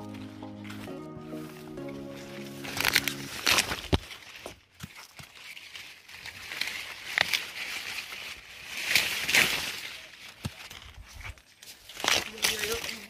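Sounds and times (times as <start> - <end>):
corn leaves rustling: 0.0 - 13.0.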